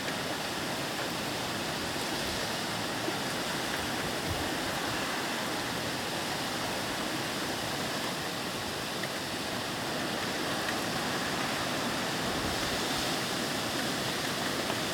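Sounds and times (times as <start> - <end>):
heavy rain hissing: 0.0 - 14.9.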